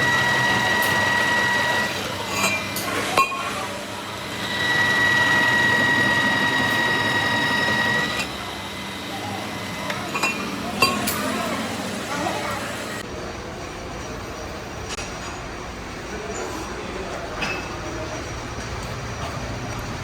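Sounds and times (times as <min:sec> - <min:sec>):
workshop machine whining: 0:00.0 - 0:20.0.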